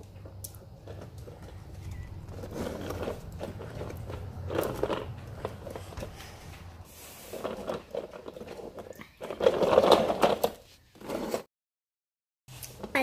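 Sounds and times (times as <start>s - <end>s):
plush toys rustling and scraping: 0.8s - 11.5s.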